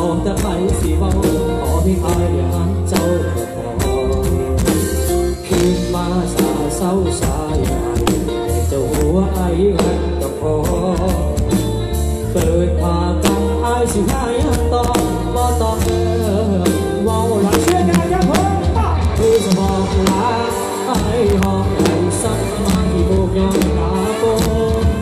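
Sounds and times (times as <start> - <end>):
bending lead melody: 0.0 - 25.0
heavy punchy bass: 0.0 - 25.0
live band through sound system: 0.0 - 25.0
steady drum beat: 0.0 - 25.0.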